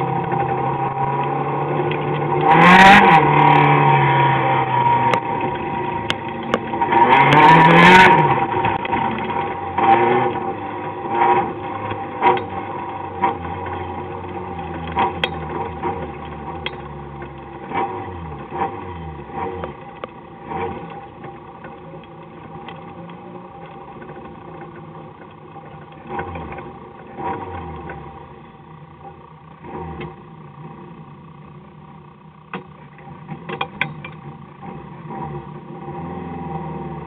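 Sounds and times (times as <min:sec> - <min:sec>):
car engine running: 0:00.0 - 0:37.0
car knocking and rattling: 0:05.0 - 0:28.3, 0:29.0 - 0:35.6.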